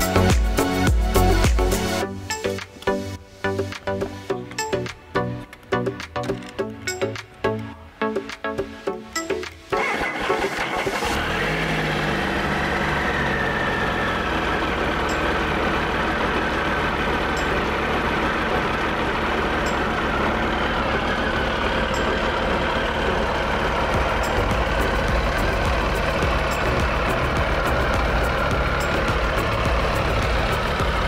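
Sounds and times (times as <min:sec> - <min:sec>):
motorcycle engine starting and idling: 0:00.0 - 0:08.7, 0:09.3 - 0:31.0.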